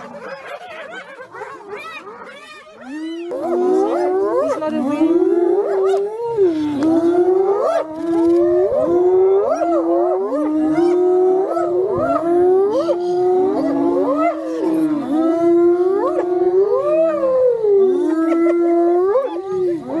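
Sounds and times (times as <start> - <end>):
wild animals howling: 0.0 - 20.0.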